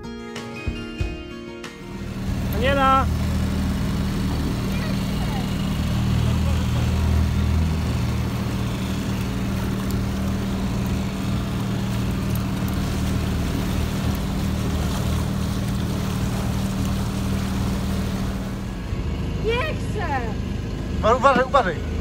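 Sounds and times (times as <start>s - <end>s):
water noise: 1.7s - 22.0s
outboard motor running: 1.8s - 22.0s
wind: 1.8s - 22.0s.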